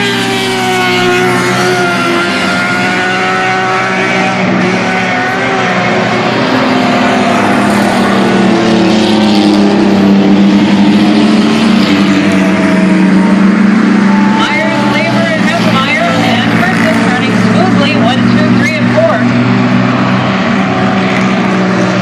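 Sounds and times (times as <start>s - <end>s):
race truck engines: 0.0s - 22.0s.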